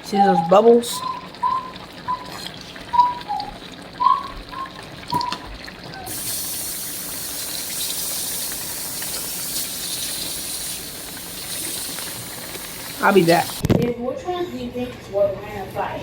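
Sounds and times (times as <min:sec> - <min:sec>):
broth bubbling in pot: 0:00.1 - 0:13.8.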